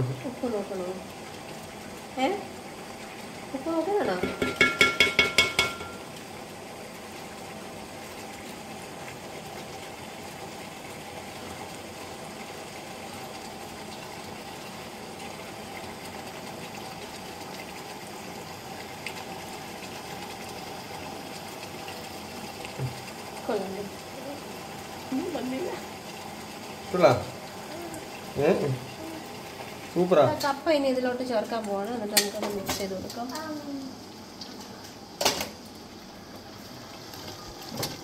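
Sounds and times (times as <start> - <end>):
kitchen hum and hiss: 0.0 - 38.0.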